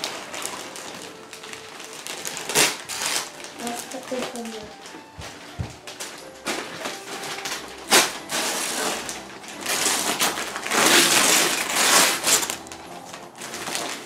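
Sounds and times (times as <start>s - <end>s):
paper crumpling: 0.0s - 14.0s
wrapping paper ripping: 0.0s - 14.0s.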